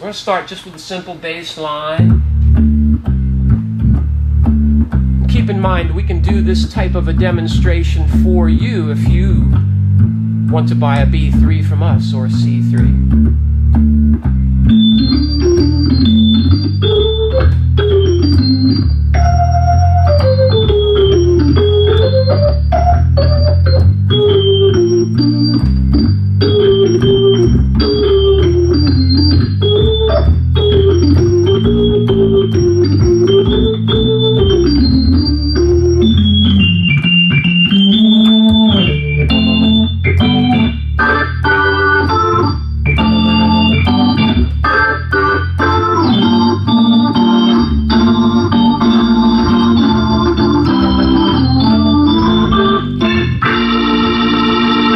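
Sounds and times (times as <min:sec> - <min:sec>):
organ bass line: 0:01.6 - 0:54.9
organ melody with high tone: 0:01.8 - 0:54.9.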